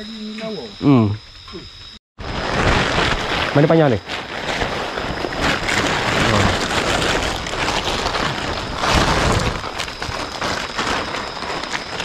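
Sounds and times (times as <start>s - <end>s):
plastic tarp crinkling: 2.2s - 12.0s.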